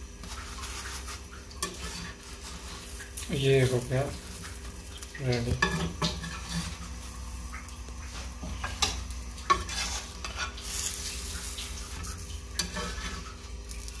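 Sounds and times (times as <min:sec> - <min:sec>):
burger sizzling on griddle: 0:00.0 - 0:14.0
metal spatula scraping griddle: 0:00.2 - 0:04.6, 0:05.5 - 0:07.2, 0:08.1 - 0:14.0.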